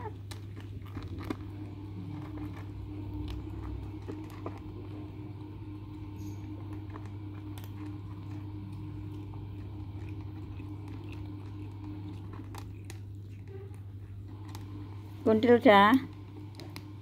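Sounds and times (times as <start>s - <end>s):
kittens crunching dry kibble: 0.0s - 17.0s
steady low hum: 0.0s - 17.0s.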